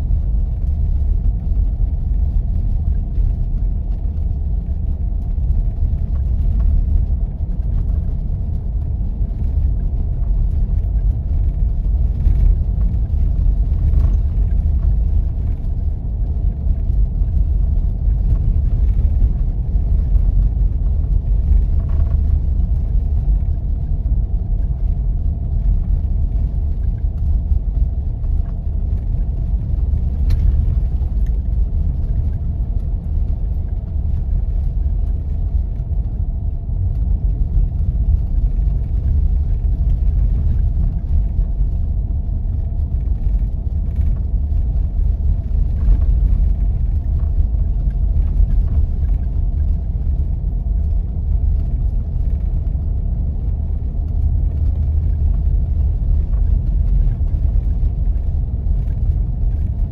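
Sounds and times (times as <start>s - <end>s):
engine and tyres rumbling: 0.0s - 59.9s
faint steady whine: 0.0s - 59.9s.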